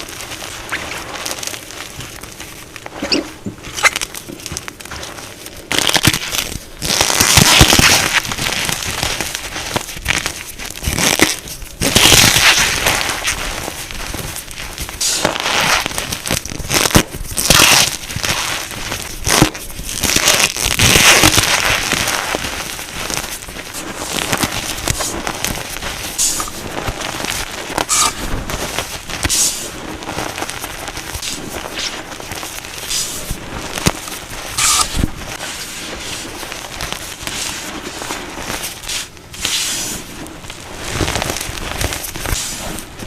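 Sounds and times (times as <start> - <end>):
chalk crunching and crackling: 0.0 - 43.0.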